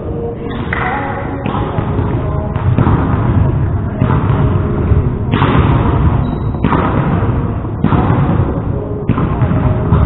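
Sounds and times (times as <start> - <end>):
steady rumble: 1.4 - 10.0.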